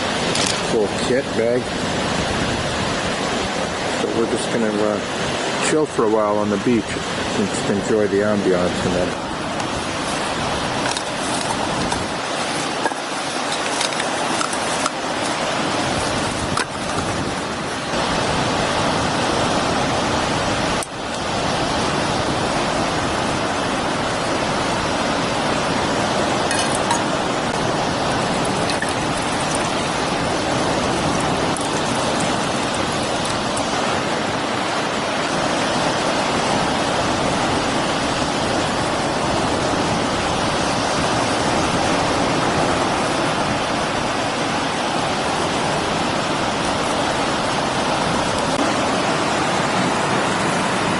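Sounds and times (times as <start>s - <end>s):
ocean surf: 0.0s - 50.9s
strong wind: 0.0s - 50.9s.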